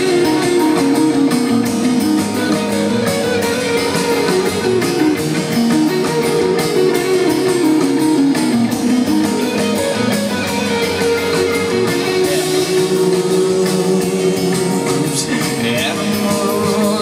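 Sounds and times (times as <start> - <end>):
drums steady beat: 0.0 - 17.0
electric guitar picking notes: 0.0 - 17.0.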